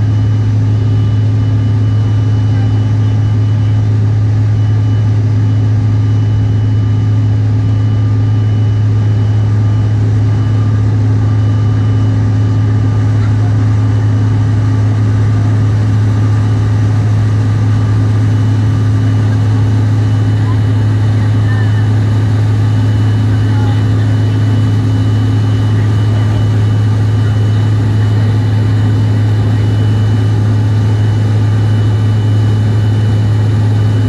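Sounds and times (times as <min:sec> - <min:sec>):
faint steady whines: 0:00.0 - 0:34.0
jet engines droning: 0:00.0 - 0:34.0.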